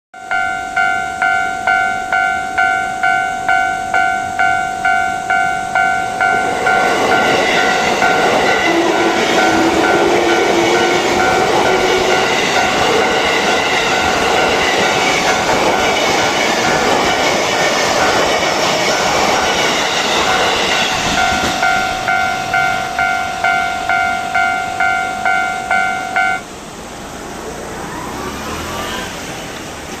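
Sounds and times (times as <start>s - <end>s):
level crossing warning bell: 0.2s - 26.6s
train wheels rushing on rails: 2.4s - 30.0s.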